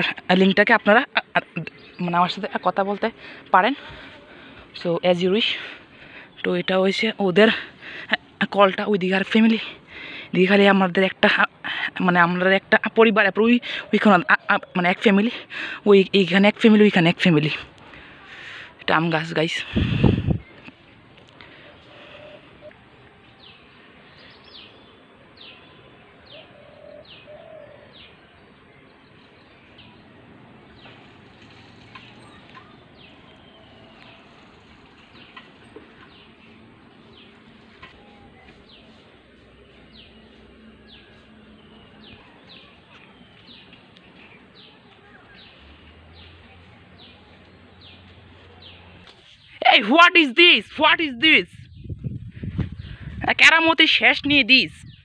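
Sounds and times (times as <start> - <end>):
small birds chirping: 0.0 - 11.5, 12.2 - 55.0.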